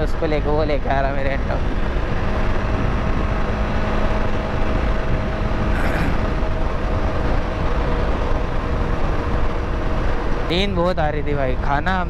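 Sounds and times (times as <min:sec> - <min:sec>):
motorcycle engine hum: 0:00.0 - 0:12.0
wind rushing over microphone: 0:00.0 - 0:12.0.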